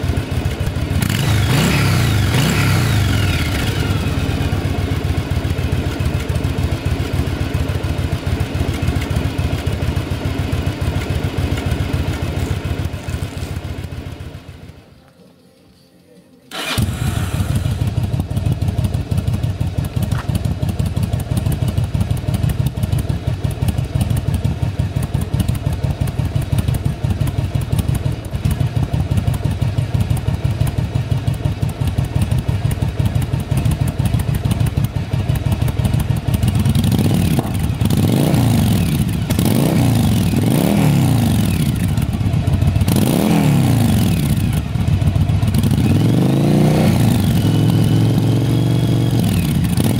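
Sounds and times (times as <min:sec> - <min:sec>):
motorcycle engine idling and revving: 0:00.0 - 0:15.1, 0:16.5 - 0:49.9.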